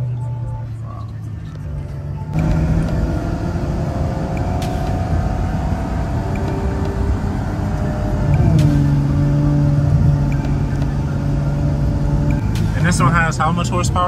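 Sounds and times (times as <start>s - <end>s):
car engine revving: 0.0s - 14.0s
road rumble: 0.0s - 14.0s.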